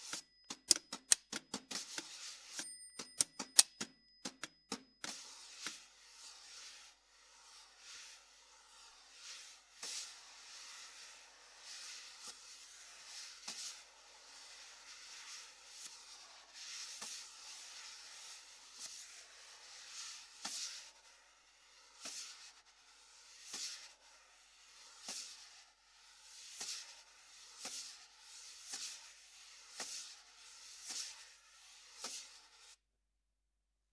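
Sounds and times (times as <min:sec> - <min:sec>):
brushes swishing on snare drum: 0:00.0 - 0:02.7, 0:04.4 - 0:32.8.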